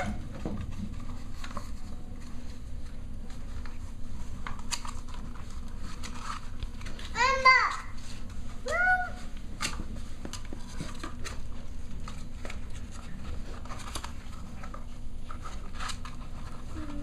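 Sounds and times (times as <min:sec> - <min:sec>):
paws and toys clicking and rustling: 0:00.0 - 0:17.0
puppies scuffling at play: 0:00.0 - 0:17.0.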